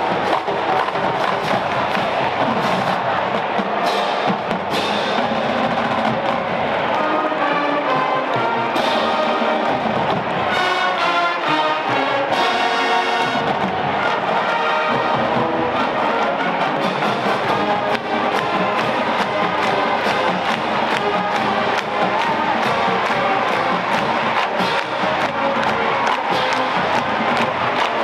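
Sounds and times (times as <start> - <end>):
marching band playing: 0.0 - 28.0.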